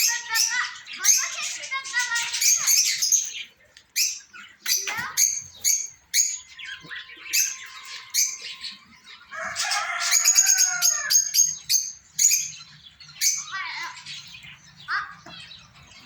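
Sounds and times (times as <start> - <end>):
caged birds chirping and warbling: 0.0 - 16.0.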